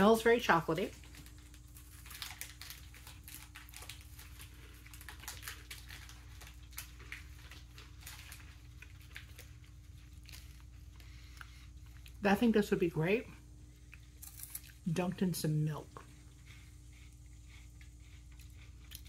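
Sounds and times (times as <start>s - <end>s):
chewing crisp wafer: 0.9s - 12.5s, 13.6s - 14.9s, 15.8s - 19.0s.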